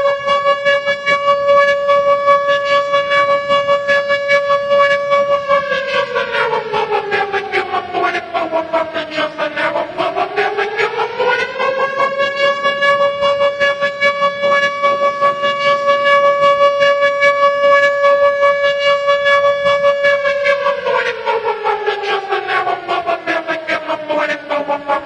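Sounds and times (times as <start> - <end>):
air-raid siren wailing: 0.0 - 25.0.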